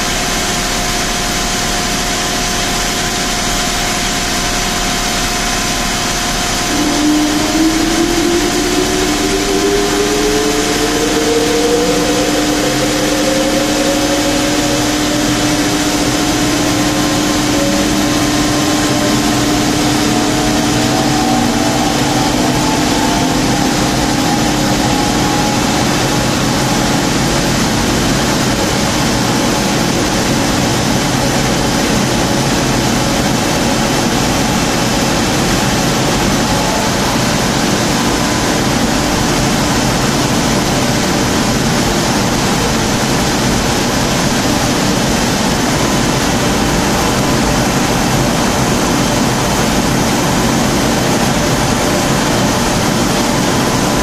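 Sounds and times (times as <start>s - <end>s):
car engine droning on dynamometer: 0.0s - 54.0s
steady low hum: 0.0s - 54.0s.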